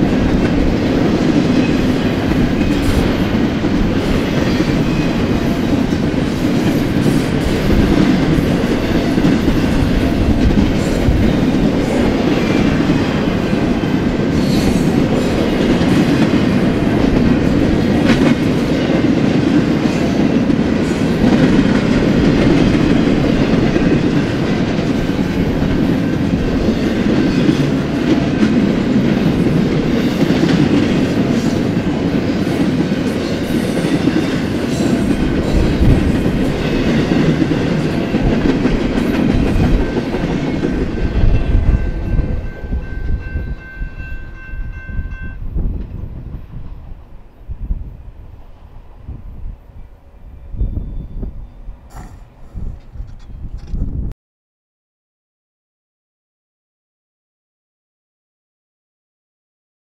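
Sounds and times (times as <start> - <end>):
steel wheels on rail: 0.0 - 54.0.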